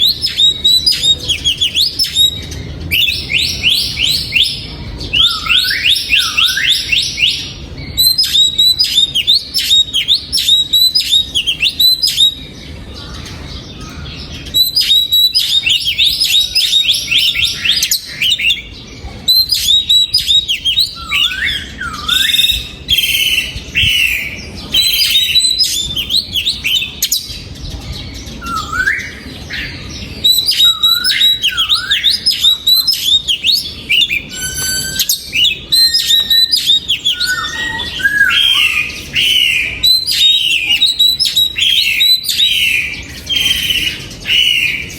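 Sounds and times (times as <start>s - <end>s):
bird singing whistled notes: 0.0s - 44.9s.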